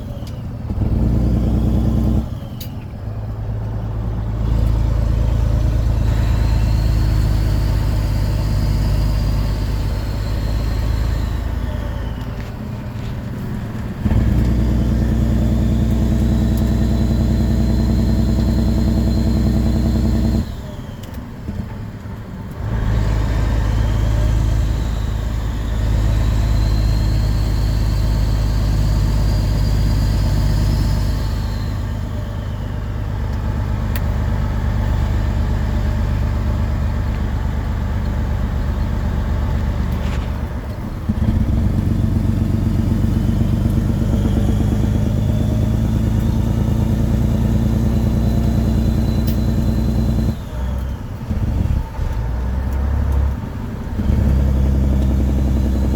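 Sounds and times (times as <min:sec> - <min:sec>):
truck diesel engine running loud: 0:00.0 - 0:55.9.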